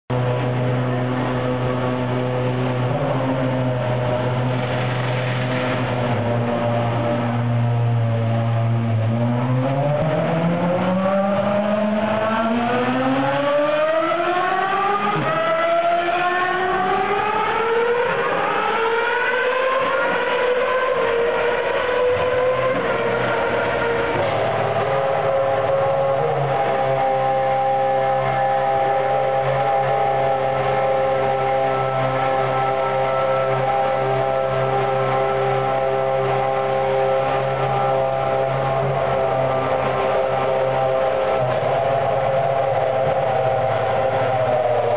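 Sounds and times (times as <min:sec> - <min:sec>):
racing car engine running: 0:00.1 - 0:44.9.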